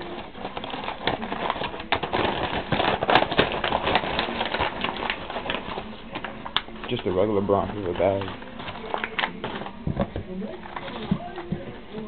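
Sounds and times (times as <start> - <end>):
cardboard box and paper rustling: 0.0 - 12.0.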